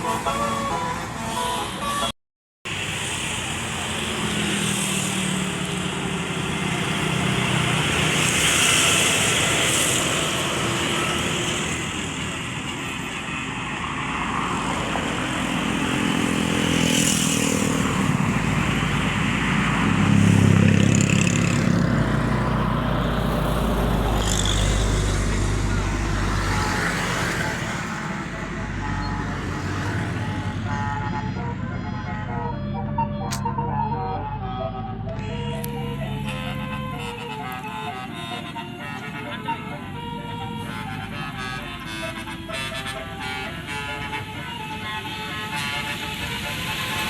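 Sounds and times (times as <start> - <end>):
bus engines running: 0.0 - 47.0
road traffic noise: 0.0 - 47.0.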